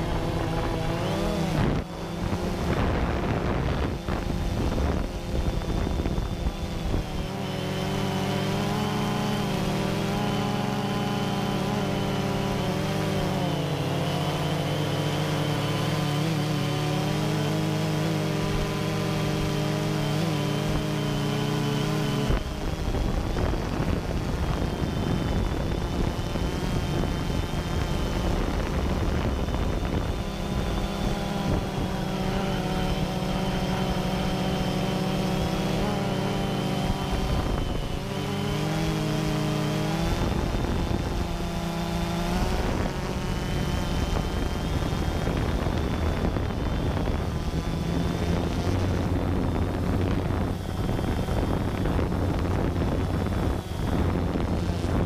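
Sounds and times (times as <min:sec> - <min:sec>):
drone motors buzzing: 0:00.0 - 0:55.0.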